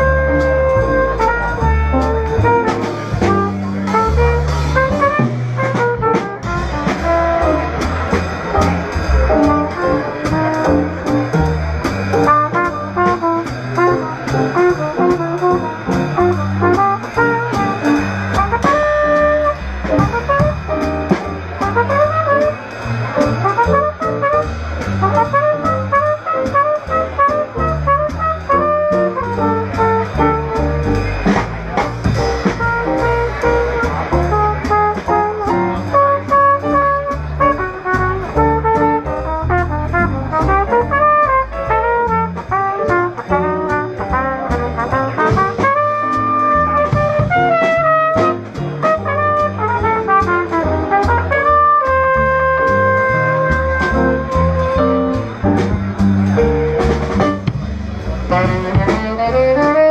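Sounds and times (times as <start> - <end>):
small jazz group playing: 0.0 - 59.9
trumpet melody: 0.0 - 59.9.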